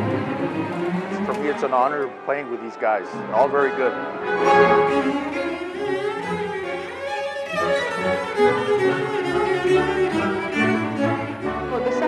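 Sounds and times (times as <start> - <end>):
orchestra bowed strings playing: 0.0 - 12.0.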